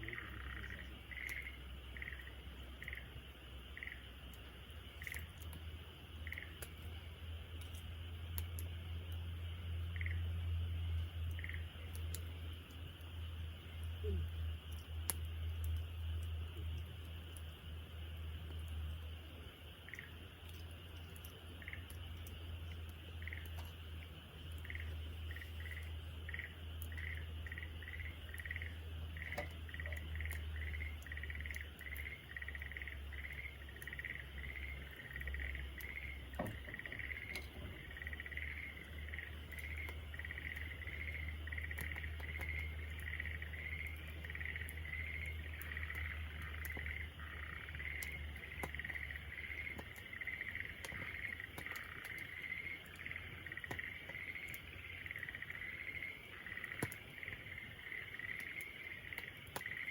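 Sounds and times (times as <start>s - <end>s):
rhythmic animal chirping: 0.0s - 6.8s, 9.4s - 59.9s
campfire crackling: 0.0s - 59.9s.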